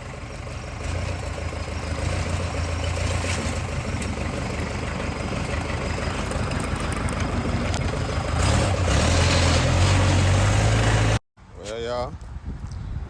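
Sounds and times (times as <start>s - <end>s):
backhoe diesel engine running: 0.0s - 11.2s.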